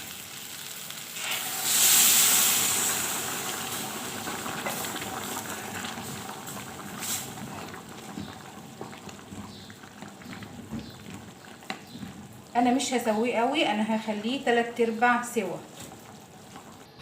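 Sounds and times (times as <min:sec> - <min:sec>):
rice hissing and bubbling in pot: 0:00.0 - 0:17.0.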